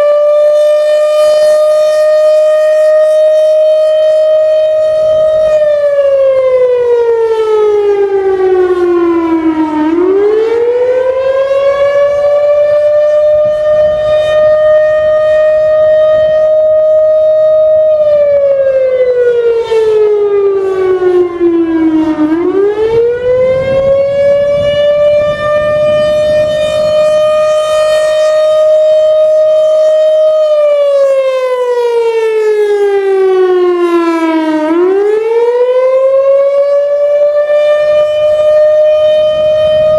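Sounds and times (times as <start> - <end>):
wailing warning siren: 0.0 - 39.9.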